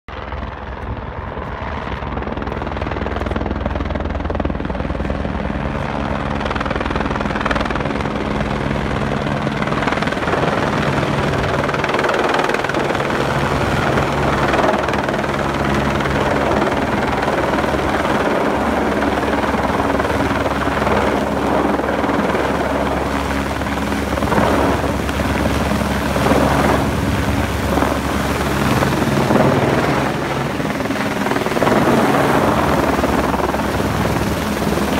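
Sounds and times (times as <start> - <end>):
helicopter flying overhead: 0.1 - 34.9.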